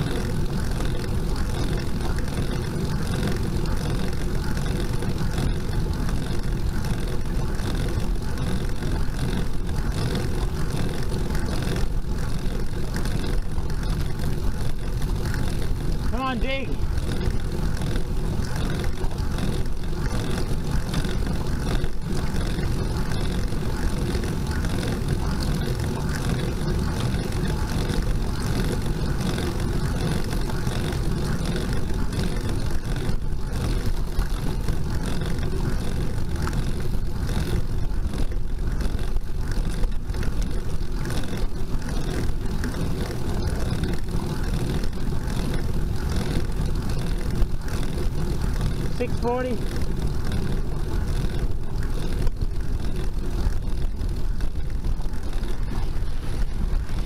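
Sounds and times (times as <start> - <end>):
wind and road noise rumble: 0.0 - 57.0.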